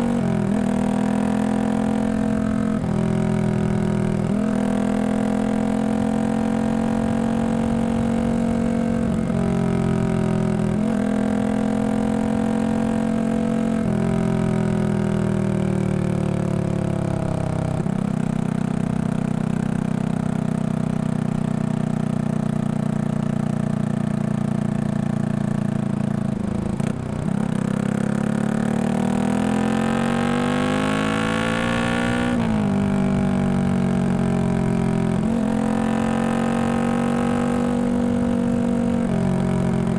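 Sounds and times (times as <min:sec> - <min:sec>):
motorcycle exhaust accelerating: 0:00.0 - 0:39.9.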